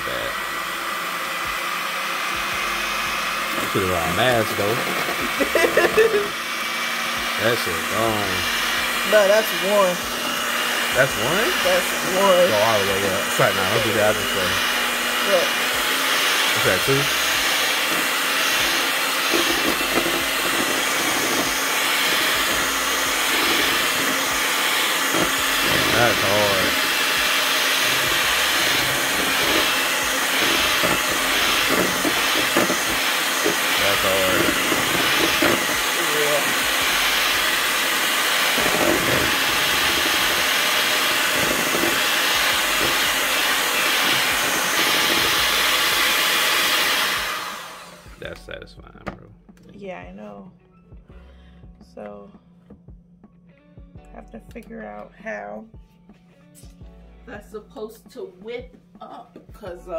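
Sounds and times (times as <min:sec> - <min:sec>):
electric mixer whirring: 0:00.0 - 0:48.4.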